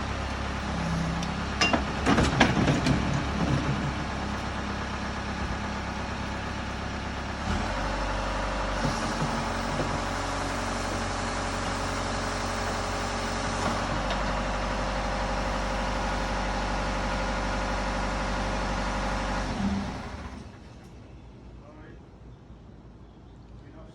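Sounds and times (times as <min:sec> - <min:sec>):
backhoe diesel engine running: 0:00.0 - 0:21.0.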